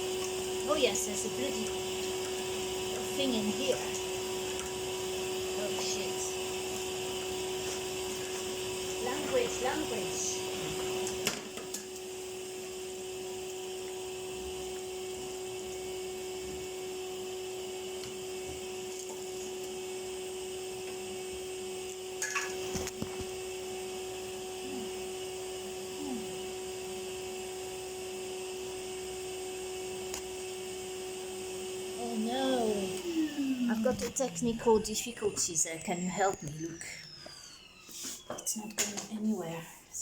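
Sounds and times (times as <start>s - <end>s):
vacuum cleaner whine: 0.0s - 40.0s.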